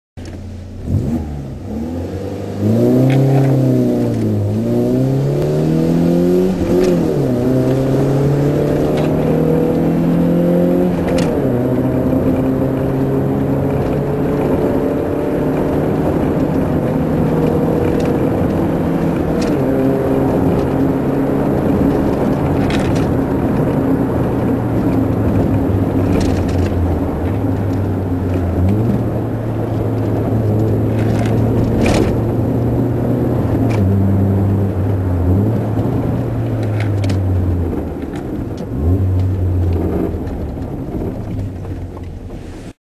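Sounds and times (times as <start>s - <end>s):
car engine accelerating: 0.2s - 42.8s.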